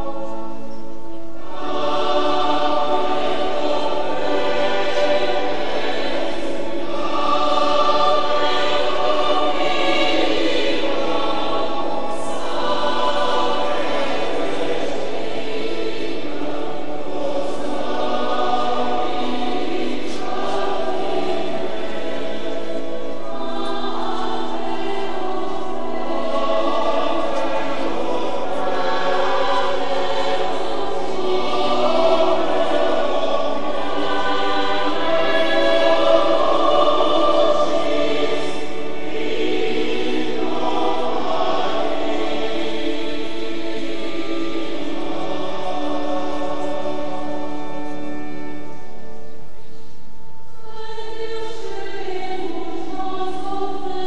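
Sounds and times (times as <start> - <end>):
crowd singing a hymn: 0.0 - 54.0.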